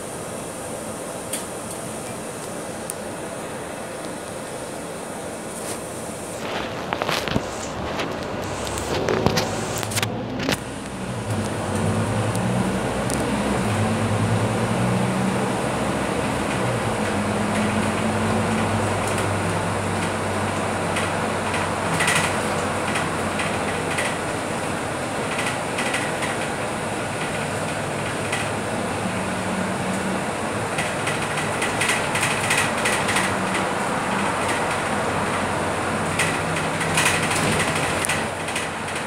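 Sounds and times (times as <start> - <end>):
bus engine drone: 0.0 - 39.0
road noise: 0.0 - 39.0.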